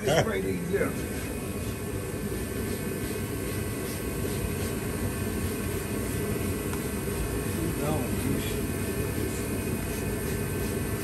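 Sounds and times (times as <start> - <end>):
low machinery drone: 0.0 - 11.0.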